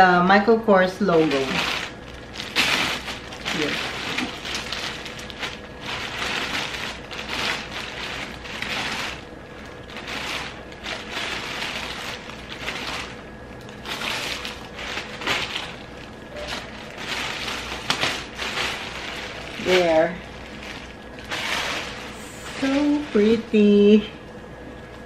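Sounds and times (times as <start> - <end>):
plastic bag crinkling: 0.9 - 25.0.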